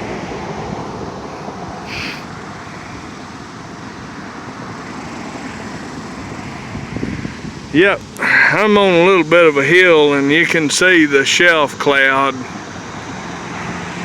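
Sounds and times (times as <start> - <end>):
gusty wind blowing: 0.0 - 14.0.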